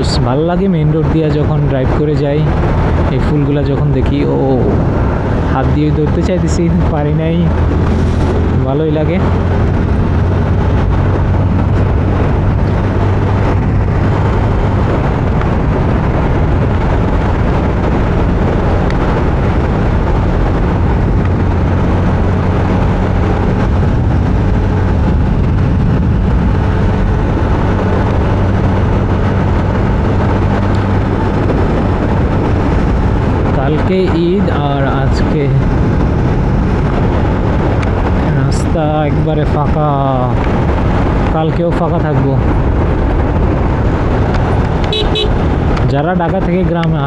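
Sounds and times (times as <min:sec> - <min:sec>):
motorcycle engine hum: 0:00.0 - 0:47.0
road and air noise: 0:00.0 - 0:47.0.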